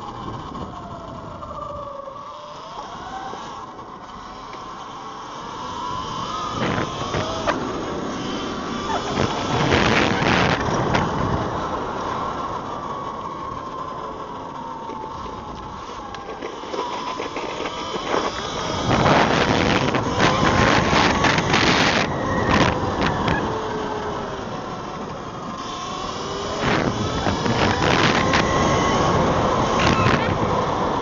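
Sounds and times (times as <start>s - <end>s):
electric motor whine: 0.0s - 31.0s.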